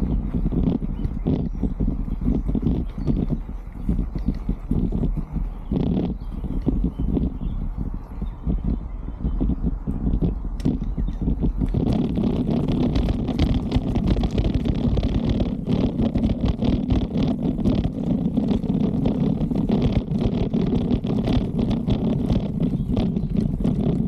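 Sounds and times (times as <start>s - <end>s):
bike clicks and rattles: 0.0s - 24.0s
tyres rumbling on trail: 0.0s - 24.0s
wind on microphone: 0.0s - 24.0s.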